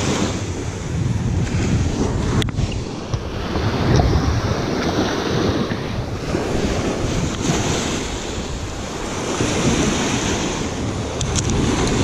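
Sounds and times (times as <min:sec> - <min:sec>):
waves washing on shore: 0:00.0 - 0:12.0
wind buffeting microphone: 0:00.0 - 0:12.0.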